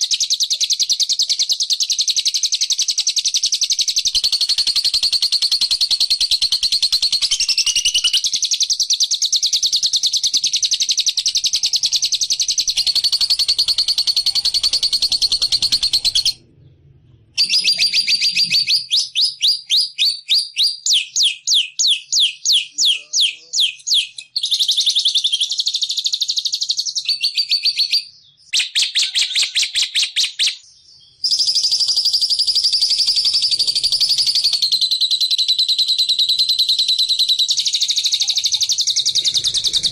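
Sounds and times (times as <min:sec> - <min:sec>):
recorded bird song trills: 0:00.0 - 0:39.9.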